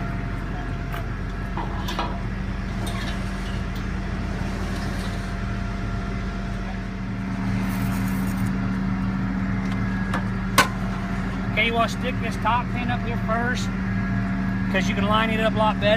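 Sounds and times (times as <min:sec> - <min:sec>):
crane diesel engine humming: 0:00.0 - 0:15.9.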